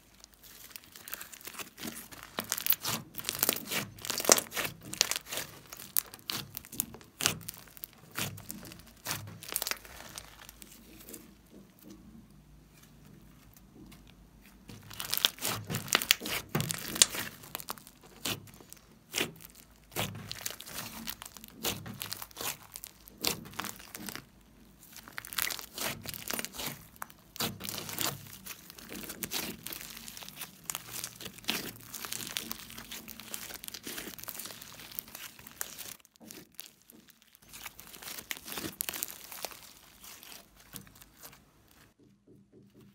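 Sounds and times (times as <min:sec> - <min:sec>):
slime squishing and crackling: 0:00.0 - 0:42.0.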